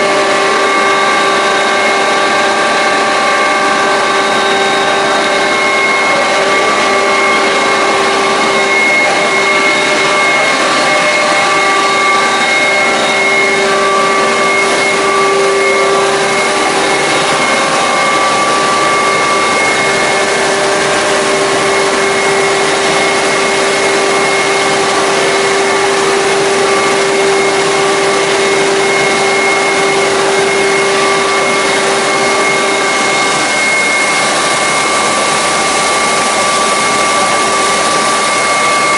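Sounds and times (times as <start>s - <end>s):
hydraulic pump whining: 0.0s - 38.9s.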